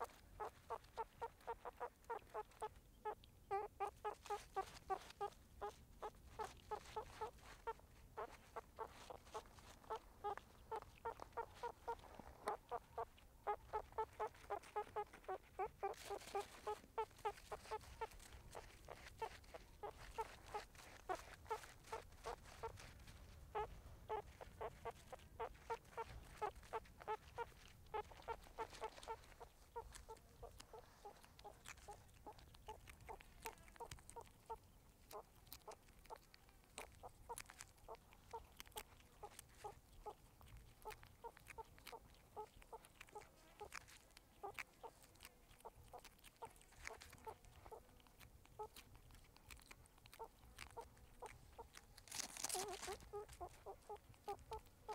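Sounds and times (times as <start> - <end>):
meerkats calling softly: 0.0 - 54.9.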